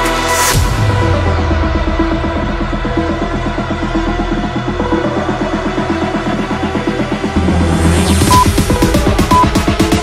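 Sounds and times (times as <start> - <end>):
electronic music with pulsing beat: 0.0 - 10.0.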